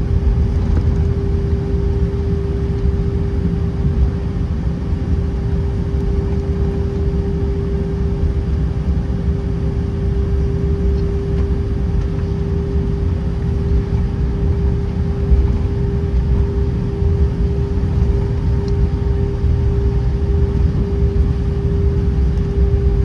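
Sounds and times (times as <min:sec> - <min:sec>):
airplane cabin hum: 0:00.0 - 0:23.0
low uneven rumble: 0:00.0 - 0:23.0.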